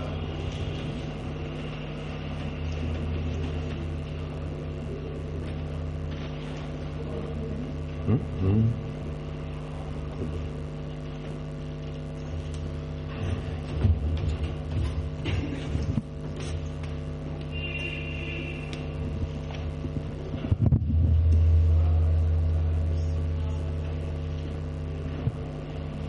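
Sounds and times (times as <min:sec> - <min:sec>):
electrical hum and low rumble: 0:00.0 - 0:26.0.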